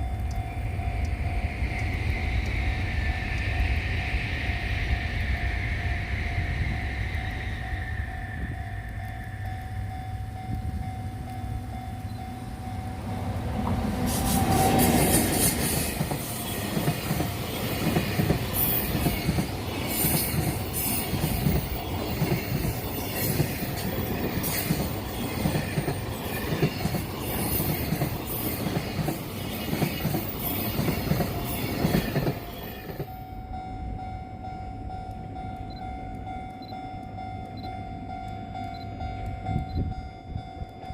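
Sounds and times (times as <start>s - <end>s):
freight train passing: 0.0s - 40.9s.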